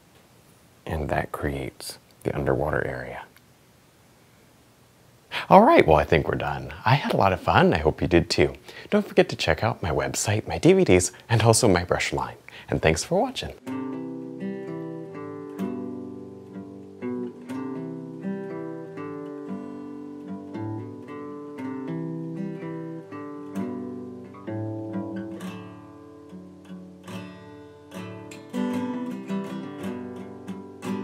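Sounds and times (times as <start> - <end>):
acoustic guitar tune: 5.3 - 31.0.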